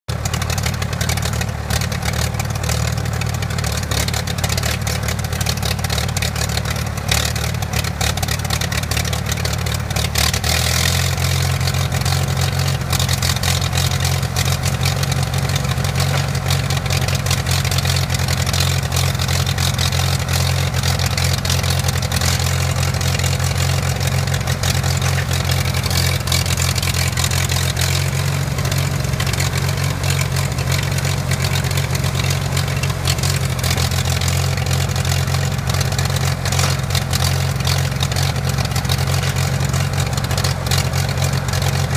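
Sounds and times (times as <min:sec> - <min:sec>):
tractor engine running: 0:00.1 - 0:41.9.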